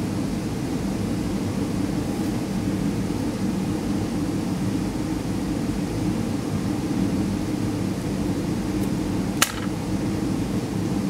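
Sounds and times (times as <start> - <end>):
kitchen ventilation hum: 0.0 - 11.0.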